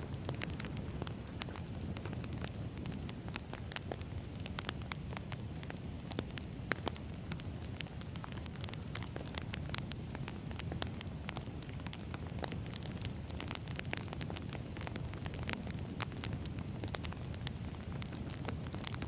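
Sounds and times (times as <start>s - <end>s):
firewood crackling and popping: 0.0s - 19.0s
wood fire rumbling: 0.0s - 19.0s.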